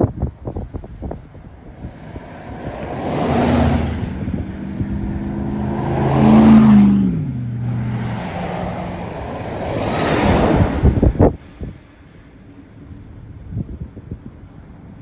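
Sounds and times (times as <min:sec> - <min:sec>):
engine hum: 0:00.0 - 0:15.0
vehicles passing close by: 0:00.0 - 0:15.0.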